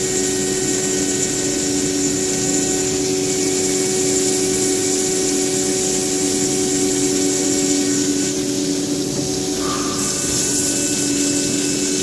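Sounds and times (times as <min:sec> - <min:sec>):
machine hum with high hiss: 0:00.0 - 0:12.0.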